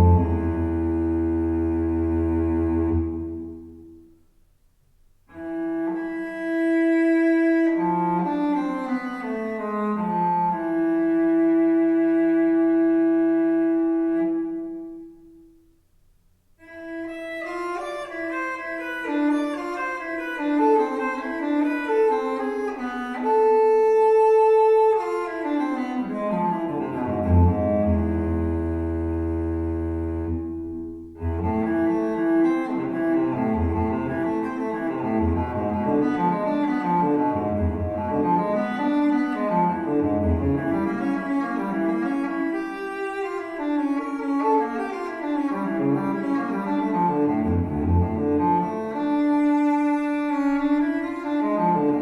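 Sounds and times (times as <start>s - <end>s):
solo cello playing: 0.0s - 4.2s, 5.2s - 15.5s, 16.6s - 52.0s.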